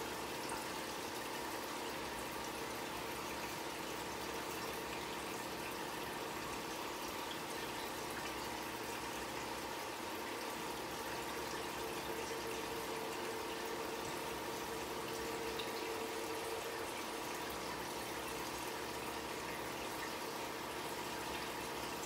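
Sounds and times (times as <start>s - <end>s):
aquarium water running: 0.0s - 22.0s
faint steady hum: 0.0s - 22.0s.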